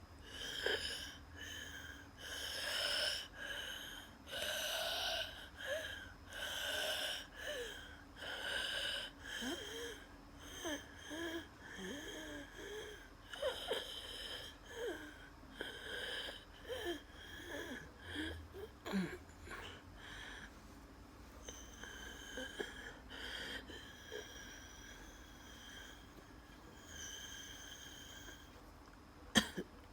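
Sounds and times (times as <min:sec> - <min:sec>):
wheezing laboured breathing: 0:00.0 - 0:20.7, 0:21.4 - 0:28.6.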